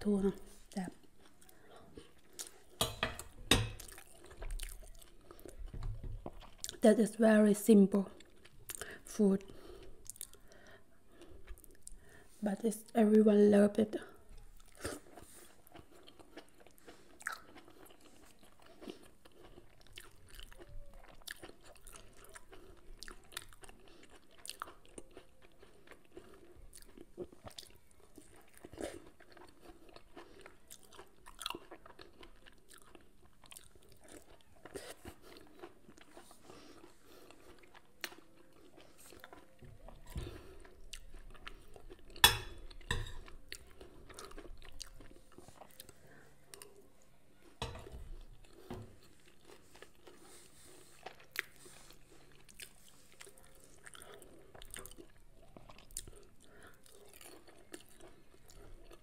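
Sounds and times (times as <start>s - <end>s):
person chewing food: 0.0s - 6.8s, 8.0s - 12.3s, 14.0s - 59.0s.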